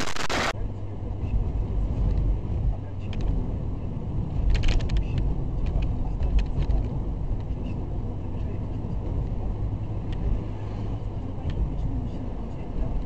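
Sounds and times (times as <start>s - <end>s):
moving car rumble: 0.0s - 13.0s.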